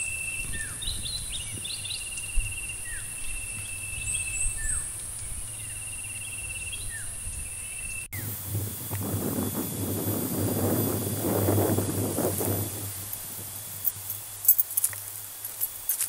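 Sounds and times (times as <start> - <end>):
rushing wind-like noise: 0.0 - 15.9
birds calling: 0.0 - 16.0
high-pitched insect buzz: 1.7 - 16.0.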